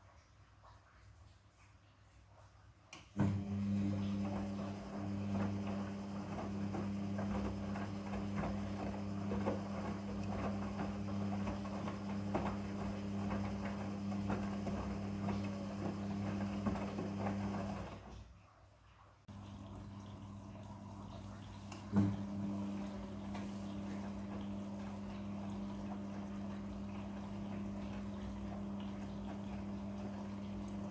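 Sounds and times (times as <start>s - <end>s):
washing machine hum: 3.0s - 30.9s
knocks and water splashes: 3.2s - 18.4s, 19.3s - 30.9s.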